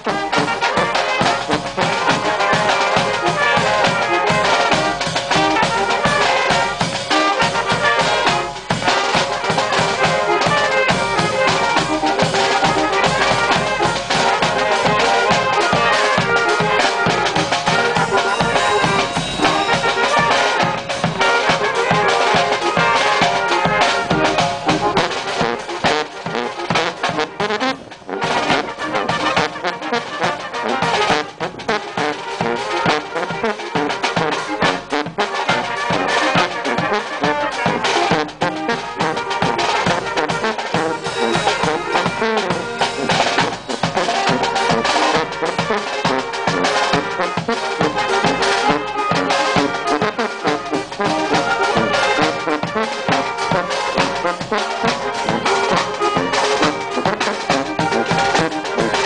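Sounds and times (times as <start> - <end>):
sousaphone bass line: 0.0 - 29.2, 37.5 - 59.0
bass drum cymbal and snare: 0.0 - 59.0
trumpets and saxophones: 0.0 - 59.0.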